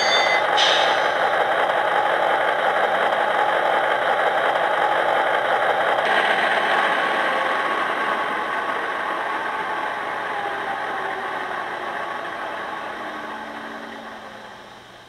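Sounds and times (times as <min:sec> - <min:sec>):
model locomotive running: 0:00.0 - 0:15.0.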